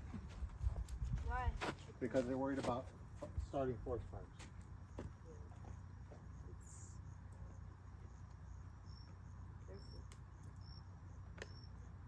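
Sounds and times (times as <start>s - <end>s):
crickets chirping: 1.3s - 12.0s.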